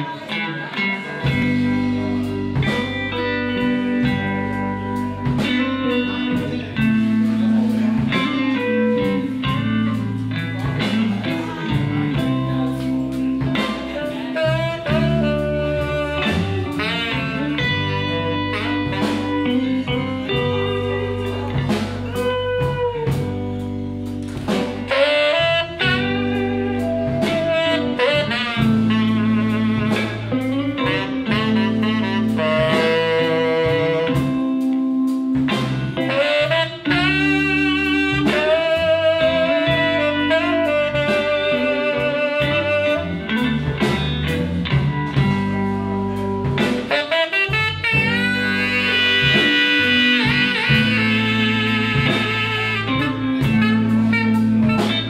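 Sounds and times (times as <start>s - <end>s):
bass and drums: 0.0s - 55.0s
electric guitar: 0.0s - 55.0s
saxophone: 0.0s - 55.0s.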